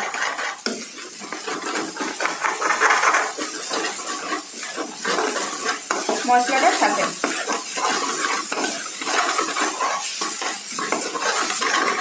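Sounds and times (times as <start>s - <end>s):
eggs sizzling: 0.0s - 12.0s
metal spatula scraping a pan: 0.0s - 12.0s.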